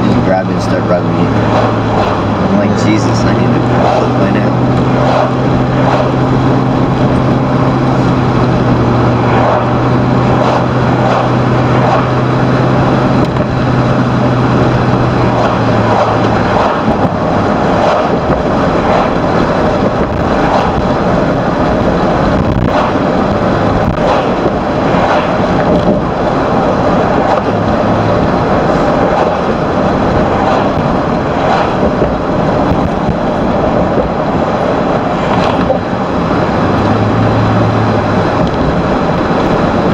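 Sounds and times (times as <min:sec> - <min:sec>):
low engine drone: 0:00.0 - 0:39.9
road noise inside moving car: 0:00.0 - 0:39.9
wind rush: 0:00.0 - 0:39.9.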